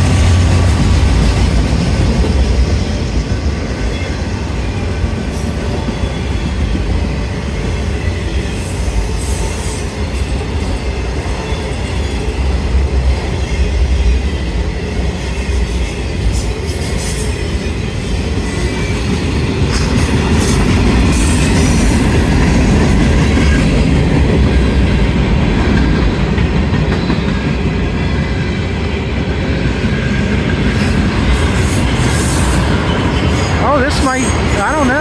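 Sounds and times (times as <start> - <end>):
train wheels rolling on rail: 0.0 - 35.0.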